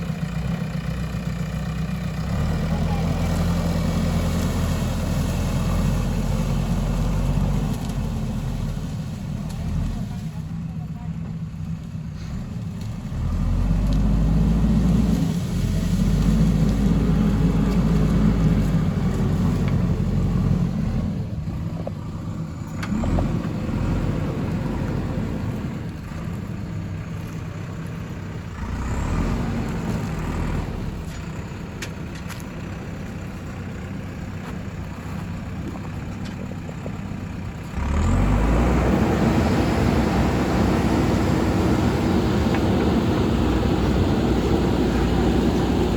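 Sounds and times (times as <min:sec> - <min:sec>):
diesel engine revving: 0:00.0 - 0:10.8, 0:11.6 - 0:45.9.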